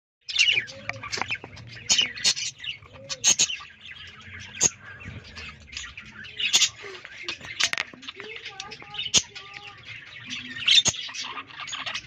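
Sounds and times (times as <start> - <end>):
budgerigars chirping and chattering: 0.2 - 12.0.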